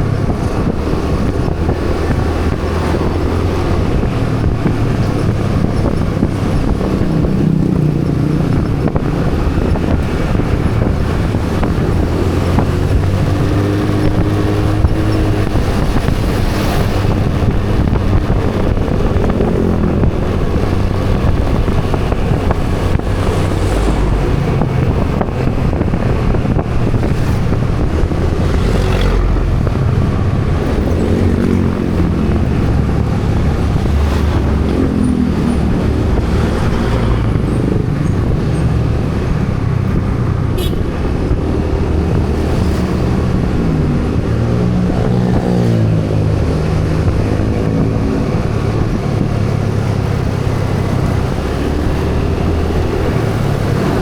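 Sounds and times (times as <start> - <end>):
road and wind noise: 0.0 - 54.0
vehicle engine humming: 0.0 - 54.0.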